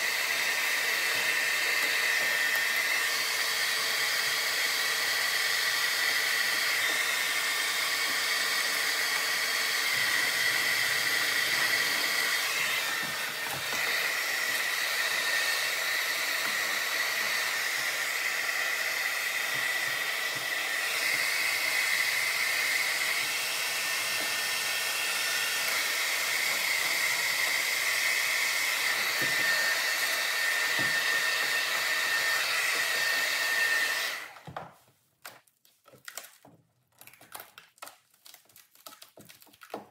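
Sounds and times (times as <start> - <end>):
hot-air blower hissing and whining: 0.0 - 34.6.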